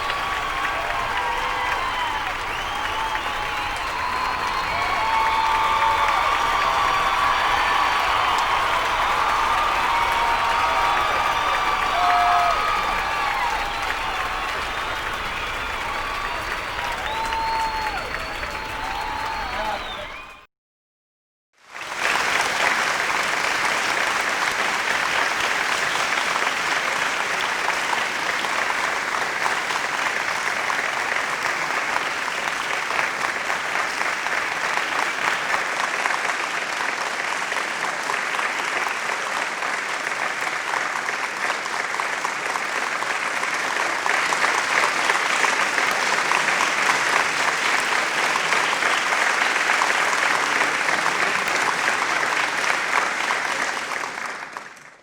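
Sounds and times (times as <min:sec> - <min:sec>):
large audience applauding: 0:00.0 - 0:20.5, 0:21.6 - 0:55.0.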